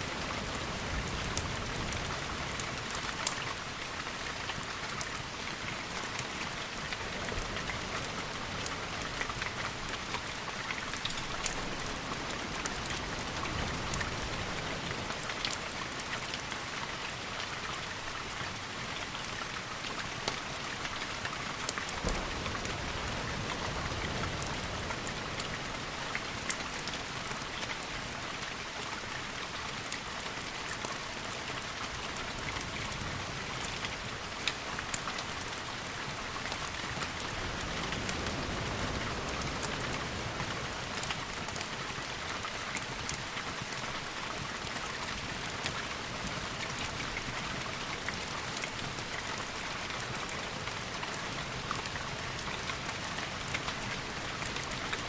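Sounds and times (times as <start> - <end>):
steady rain with drop ticks: 0.0 - 55.0.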